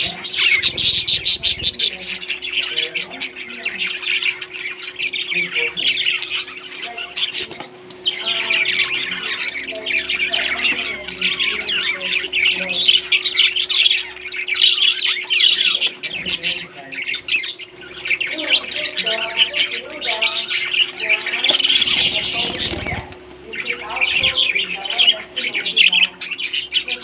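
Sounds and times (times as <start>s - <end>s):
faint steady hum: 0.0s - 27.0s
parrots chattering and squawking: 0.0s - 27.0s.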